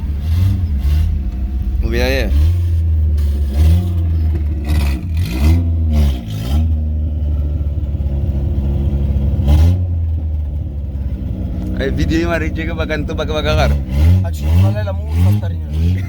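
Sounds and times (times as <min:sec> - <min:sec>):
car engine revving: 0:00.0 - 0:16.0
steady low drone: 0:00.0 - 0:16.0.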